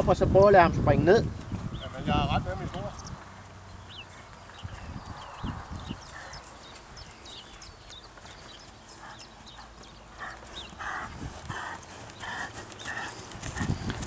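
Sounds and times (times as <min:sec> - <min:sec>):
horse trotting on grass: 0:02.7 - 0:14.0.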